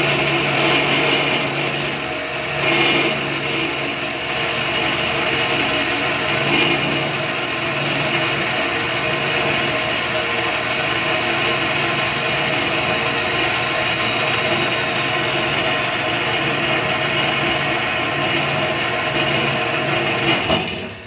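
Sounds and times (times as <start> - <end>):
bandsaw cutting steel tube: 0.0 - 21.0.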